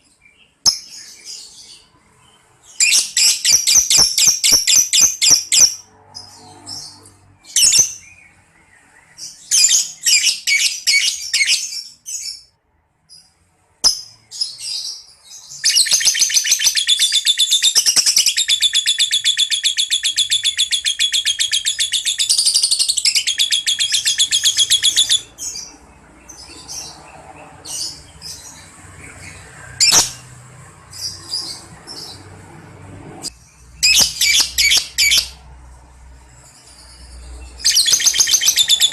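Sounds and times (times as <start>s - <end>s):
lovebird chirping: 0.0s - 12.5s, 13.1s - 32.4s, 33.3s - 35.5s, 36.4s - 38.9s.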